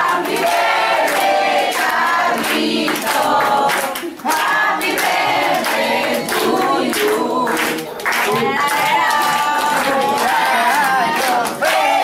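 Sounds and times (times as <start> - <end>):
group singing birthday song: 0.0 - 12.0.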